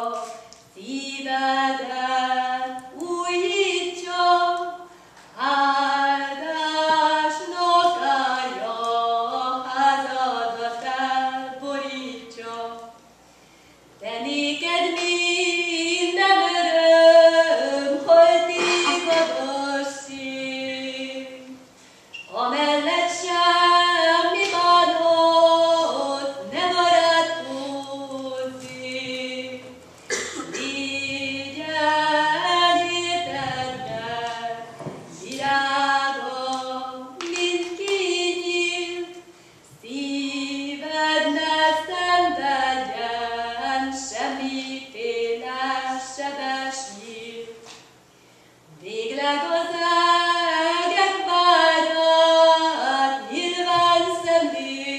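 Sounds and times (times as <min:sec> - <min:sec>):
woman singing unaccompanied: 0:00.0 - 0:13.0, 0:14.0 - 0:21.6, 0:22.3 - 0:29.8, 0:30.4 - 0:47.7, 0:48.7 - 0:54.9.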